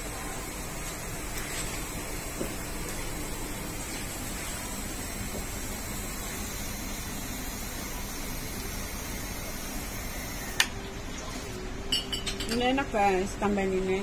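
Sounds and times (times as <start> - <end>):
room hiss and hum: 0.0 - 14.0.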